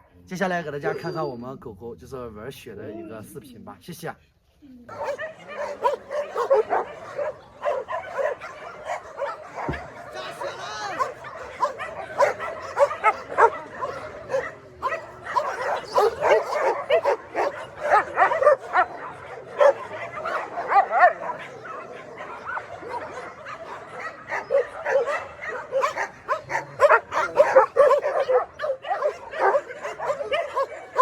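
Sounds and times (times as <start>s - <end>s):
dogs barking and yipping: 0.8s - 1.3s, 4.9s - 31.0s.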